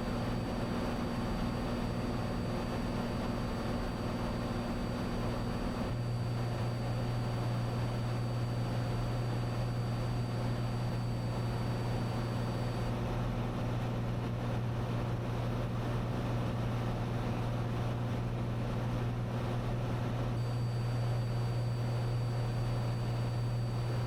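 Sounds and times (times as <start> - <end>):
propeller plane engine drone: 0.0 - 24.0.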